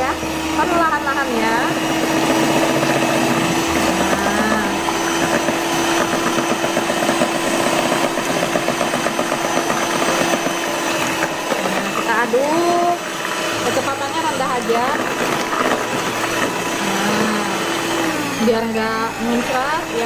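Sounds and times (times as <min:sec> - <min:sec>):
electric hand mixer whirring: 0:00.0 - 0:20.0.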